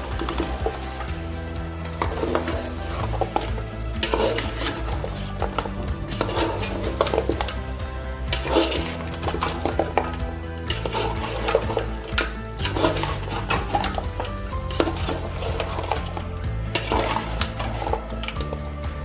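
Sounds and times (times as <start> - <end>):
background music: 0.0 - 19.0
stirring and scraping in a pot: 0.0 - 19.0.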